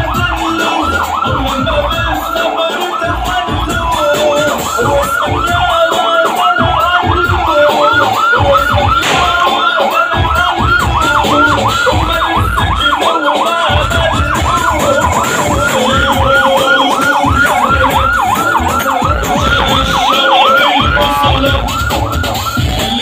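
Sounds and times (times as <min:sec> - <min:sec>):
siren yelping: 0:00.0 - 0:23.0.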